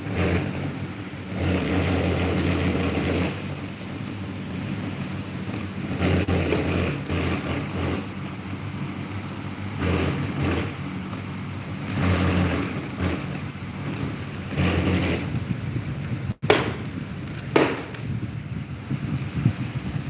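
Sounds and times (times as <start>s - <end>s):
electric fan motor hum: 0.0s - 20.0s
rushing air from fan: 0.0s - 20.0s.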